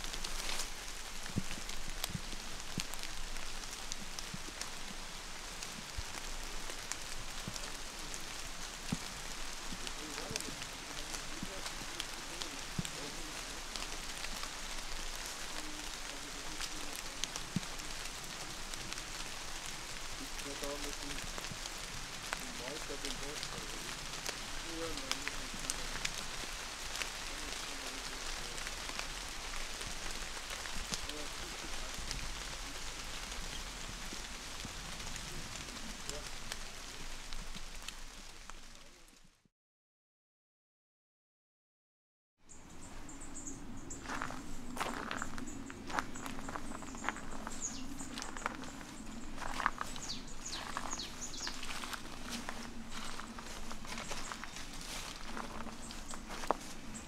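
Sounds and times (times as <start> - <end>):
rain on leaves: 0.0 - 39.4, 42.5 - 57.0.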